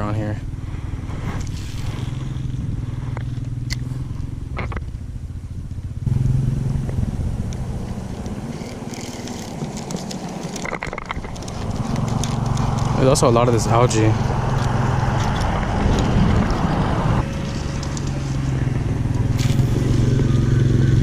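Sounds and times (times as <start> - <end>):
motor droning: 0.5 - 21.0.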